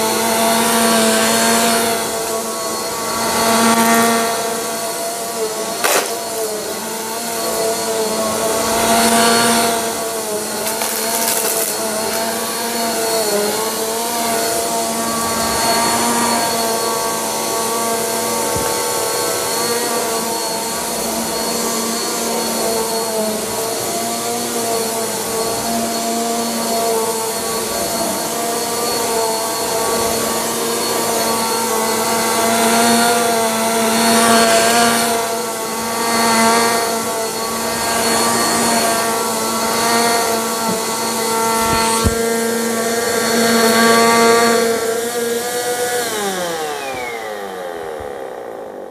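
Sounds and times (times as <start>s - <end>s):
vacuum cleaner on carpet: 0.0s - 48.9s.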